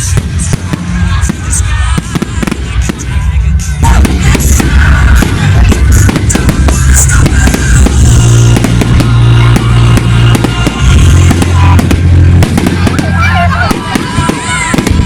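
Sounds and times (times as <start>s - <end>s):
fireworks bangs and crackles: 0.0s - 15.0s
loud music with deep bass: 0.0s - 15.0s.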